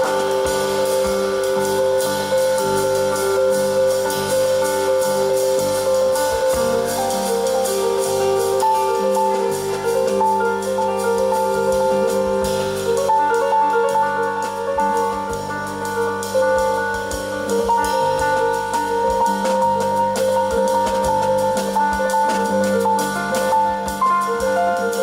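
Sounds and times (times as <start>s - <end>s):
bass: 0.0s - 25.0s
drums on cymbals: 0.0s - 25.0s
piano chords and melody: 0.0s - 25.0s.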